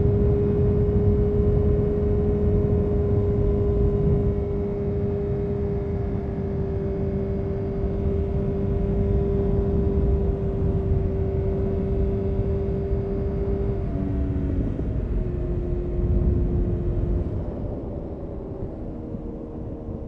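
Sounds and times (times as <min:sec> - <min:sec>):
motorcycle engine riding: 0:00.0 - 0:20.0.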